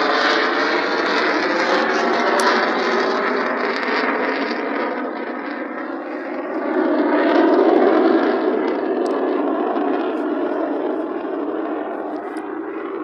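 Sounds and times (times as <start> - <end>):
jet aircraft engine roar: 0.0 - 13.0.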